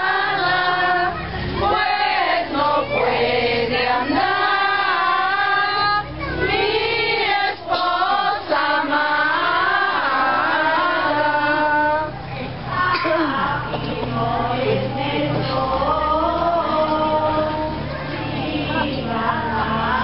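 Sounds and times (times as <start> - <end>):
group of voices singing: 0.0 - 20.0.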